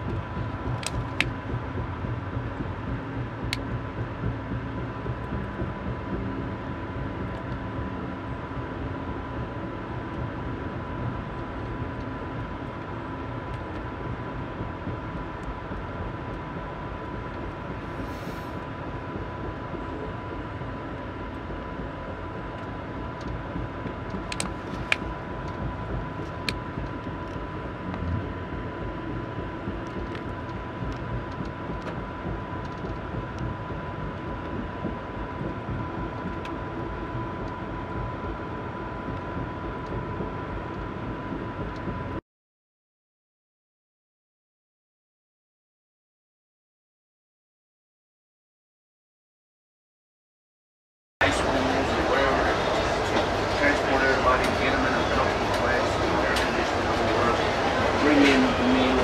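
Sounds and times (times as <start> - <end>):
train rumbling on track: 0.0 - 42.2, 51.2 - 59.0.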